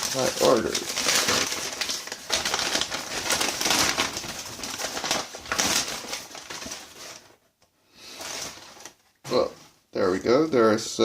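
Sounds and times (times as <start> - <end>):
packing material rustling: 0.0 - 9.5.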